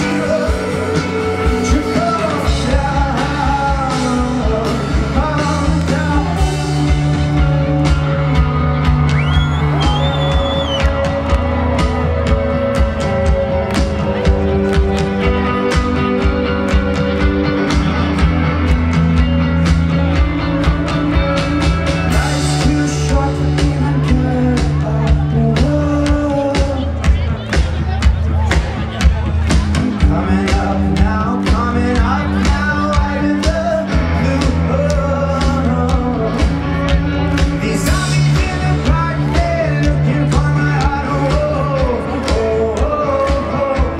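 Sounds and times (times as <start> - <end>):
person singing: 0.0 - 17.6, 22.0 - 27.4, 29.7 - 43.9
bass guitar: 0.0 - 43.9
electric guitar: 0.0 - 43.9
indie rock band playing live: 0.0 - 43.9
steady drum beat: 0.0 - 43.9.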